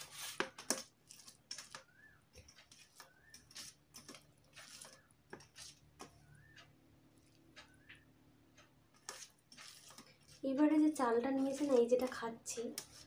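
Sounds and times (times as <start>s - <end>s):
fingers squishing rice: 0.0s - 8.0s, 8.9s - 13.0s.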